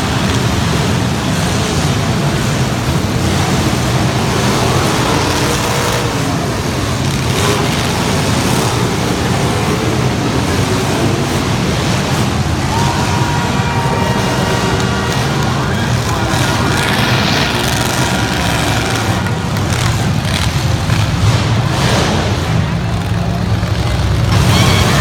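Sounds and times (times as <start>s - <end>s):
truck engines running loud: 0.0s - 25.0s.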